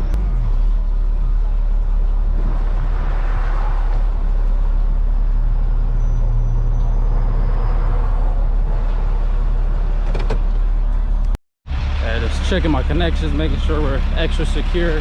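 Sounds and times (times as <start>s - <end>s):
tow truck engine humming: 0.0s - 15.0s.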